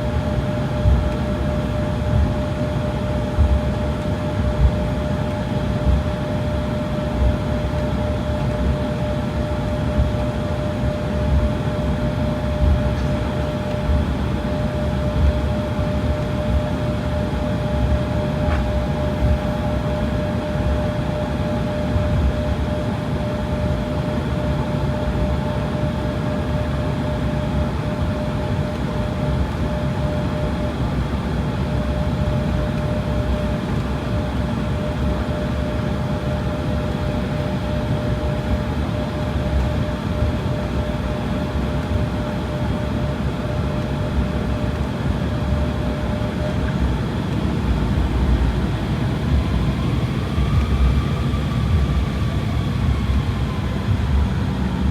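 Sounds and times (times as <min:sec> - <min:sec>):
aircraft cabin rumble: 0:00.0 - 0:54.9
aircraft engine whine: 0:00.0 - 0:54.9.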